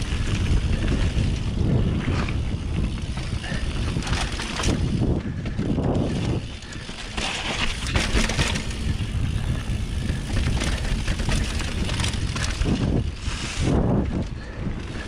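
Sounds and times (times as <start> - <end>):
bike knocking and rattling: 0.0 - 15.0
bike tyres rolling over dirt: 0.0 - 15.0.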